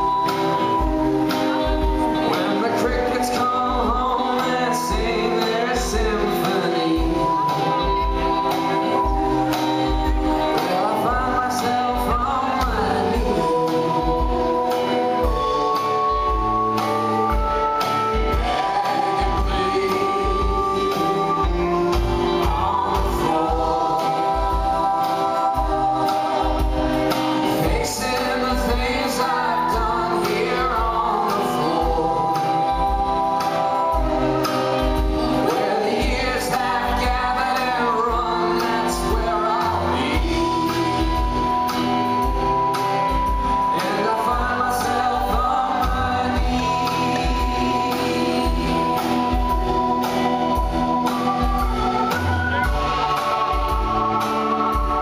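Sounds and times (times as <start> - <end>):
live rock band playing: 0.0 - 55.0
man singing lead: 0.0 - 55.0.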